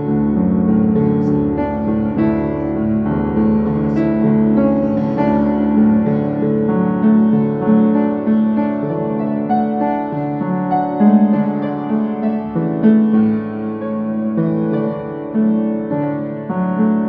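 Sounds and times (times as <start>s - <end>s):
slow gospel piano music: 0.0s - 17.0s.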